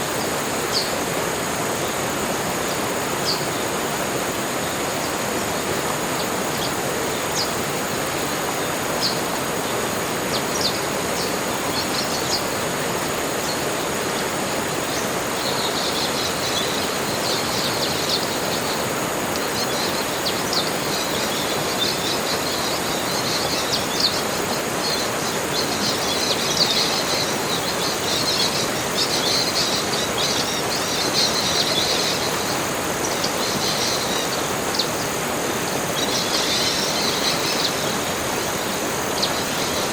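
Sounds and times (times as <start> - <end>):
small birds chirping and twittering: 0.0 - 39.9
steady rushing hiss: 0.0 - 39.9.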